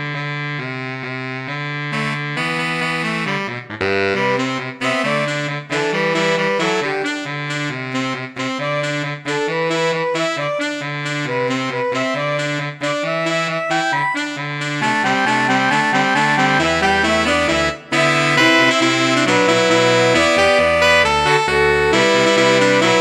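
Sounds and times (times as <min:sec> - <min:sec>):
saxophone quartet playing: 0:01.9 - 0:23.0.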